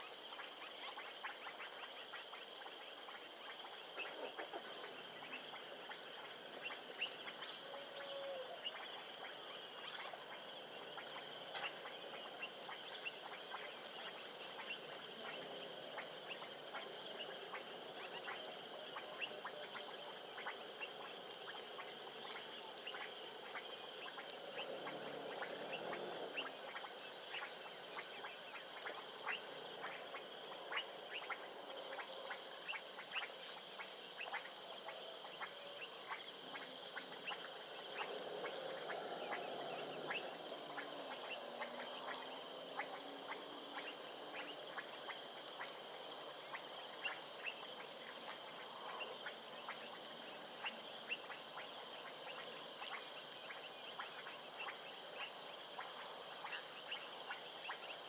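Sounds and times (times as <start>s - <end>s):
lower frog calls: 0.0s - 58.0s.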